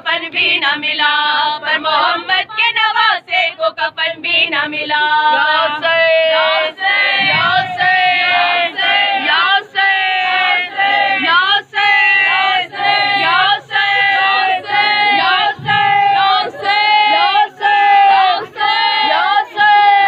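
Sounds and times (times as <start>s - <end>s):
crowd chanting a lament: 0.0s - 20.0s.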